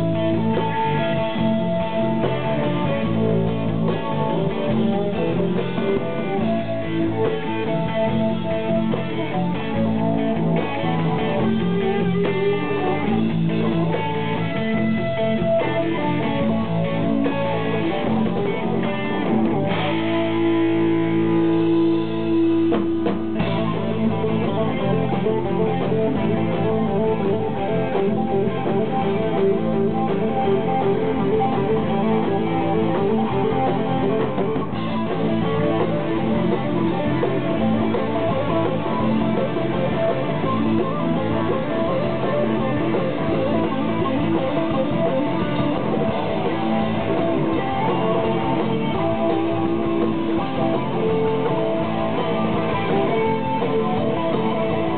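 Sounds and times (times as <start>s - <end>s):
bass guitar: 0.0s - 54.9s
drums: 0.0s - 54.9s
electric guitar: 0.0s - 54.9s.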